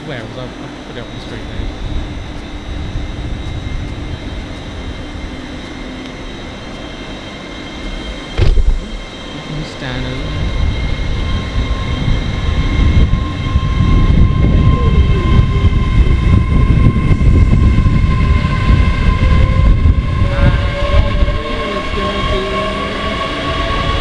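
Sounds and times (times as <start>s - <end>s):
train motors whining: 0.0s - 24.0s
train rumbling: 0.0s - 24.0s.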